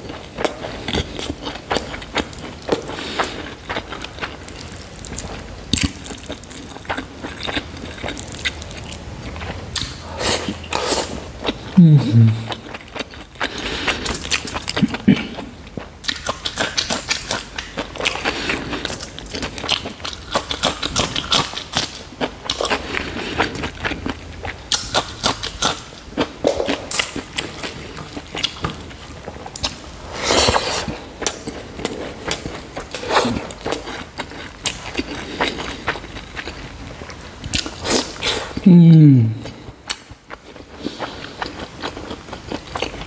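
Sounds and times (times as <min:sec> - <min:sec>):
person chewing food: 0:00.0 - 0:43.0.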